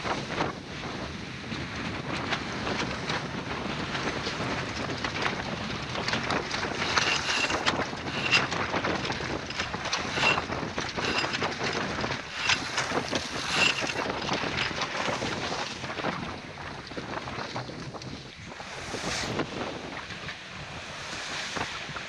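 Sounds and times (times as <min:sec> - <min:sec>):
wind buffeting microphone: 0:00.0 - 0:22.0
waves splashing against hull: 0:03.8 - 0:22.0.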